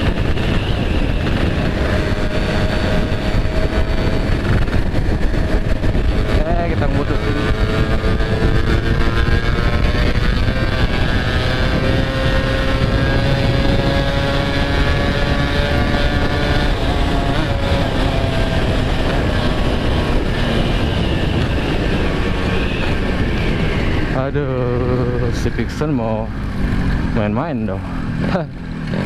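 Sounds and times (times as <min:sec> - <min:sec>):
motorcycle engine while riding: 0:00.0 - 0:29.0.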